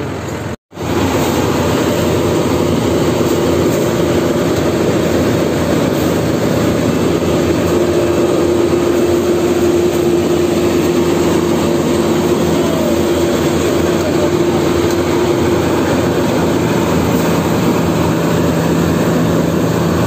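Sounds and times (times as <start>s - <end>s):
combine harvester droning: 0.0s - 20.0s
machinery whine: 0.0s - 20.0s.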